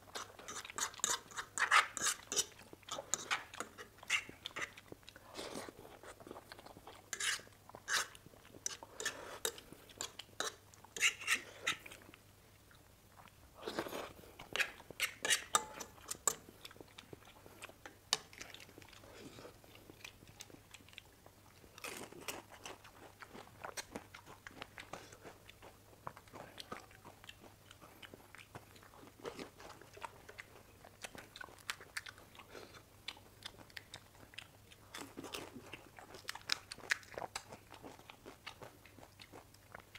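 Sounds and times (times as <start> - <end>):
chewing and slurping noodles: 0.0 - 39.9.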